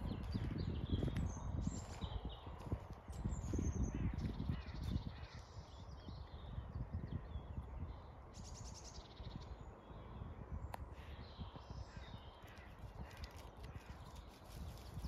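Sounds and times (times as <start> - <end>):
birds singing: 0.0 - 15.0
wind on microphone: 0.0 - 15.0.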